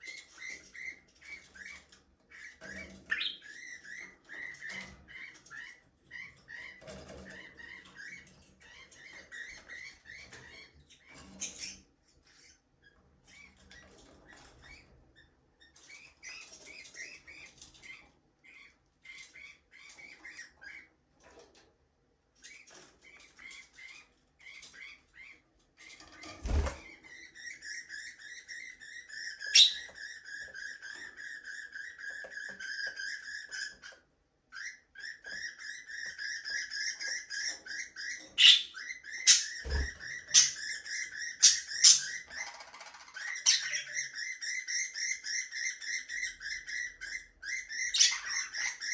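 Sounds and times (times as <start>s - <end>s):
budgies chirping and warbling: 0.0s - 21.7s, 22.4s - 48.9s.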